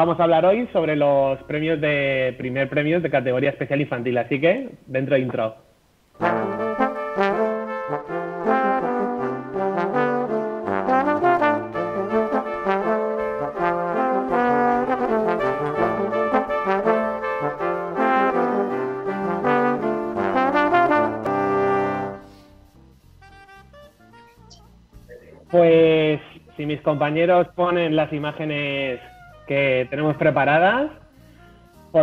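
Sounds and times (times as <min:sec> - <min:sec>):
brass-led instrumental jingle: 0:06.2 - 0:32.0.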